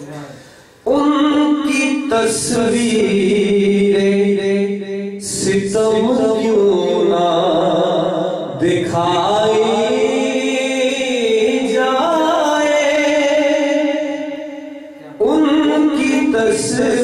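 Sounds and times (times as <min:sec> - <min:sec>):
man singing long held notes: 0:00.8 - 0:17.0.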